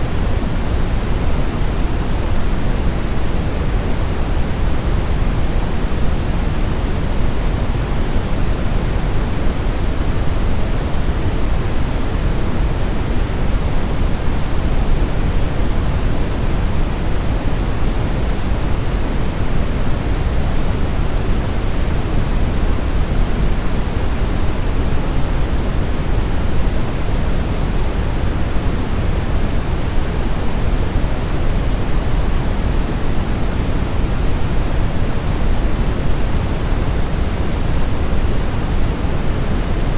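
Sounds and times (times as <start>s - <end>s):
steady brown noise: 0.0s - 39.9s.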